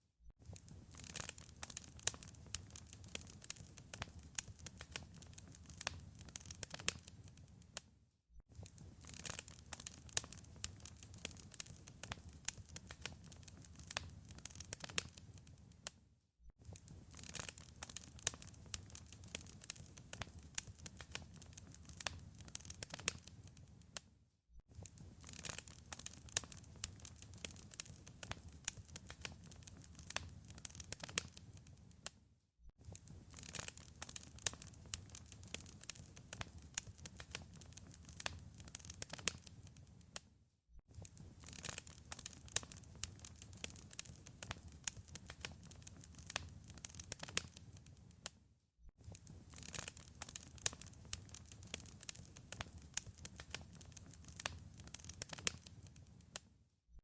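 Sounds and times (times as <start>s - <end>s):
wood fire crackling: 0.4s - 7.8s, 8.5s - 15.9s, 16.6s - 24.0s, 24.7s - 32.1s, 32.8s - 40.2s, 40.9s - 48.3s, 49.0s - 56.4s.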